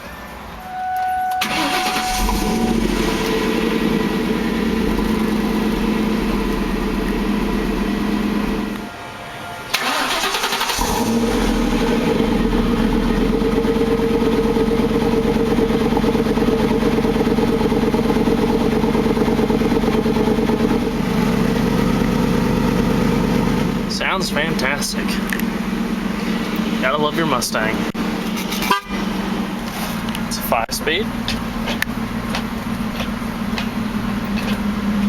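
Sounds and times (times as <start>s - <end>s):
car engine idling: 0.0s - 8.9s, 9.7s - 35.0s.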